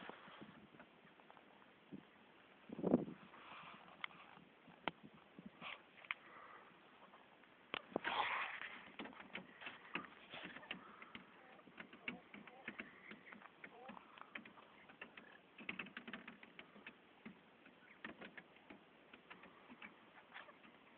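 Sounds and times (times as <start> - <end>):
quail pecking and shuffling in straw: 0.0 - 20.9.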